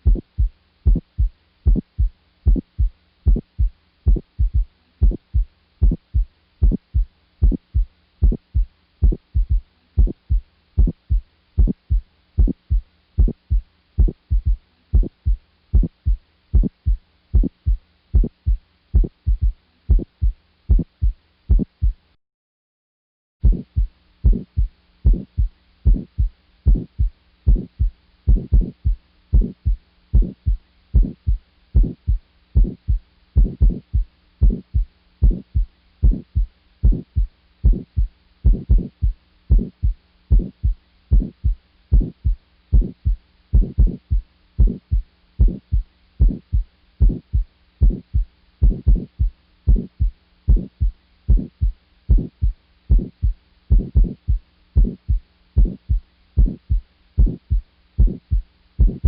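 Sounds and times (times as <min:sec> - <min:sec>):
heartbeat thumps: 0:00.0 - 0:22.1, 0:23.4 - 0:59.0
faint steady hum: 0:00.0 - 0:22.2, 0:23.4 - 0:59.0.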